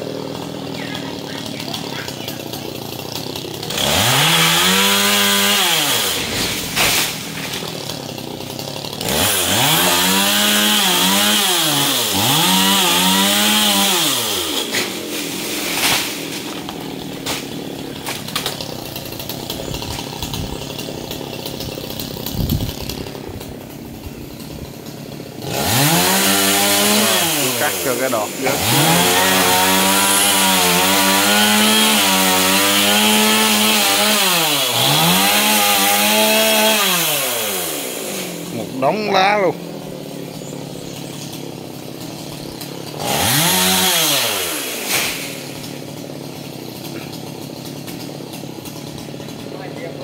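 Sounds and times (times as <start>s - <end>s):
chainsaw revving and idling: 0.0s - 50.0s.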